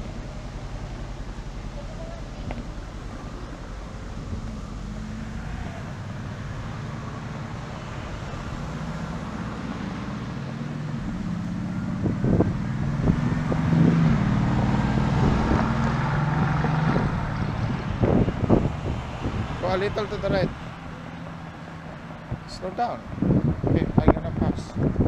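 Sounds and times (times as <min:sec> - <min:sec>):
road traffic: 0:00.0 - 0:25.0
wind on microphone: 0:02.4 - 0:25.0.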